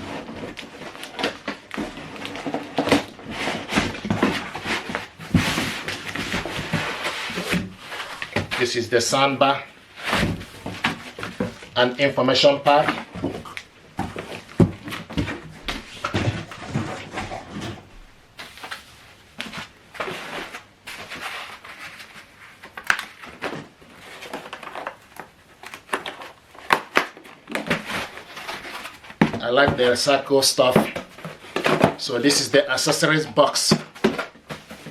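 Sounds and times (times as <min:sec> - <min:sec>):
cardboard and paper rustling: 0:00.0 - 0:34.9.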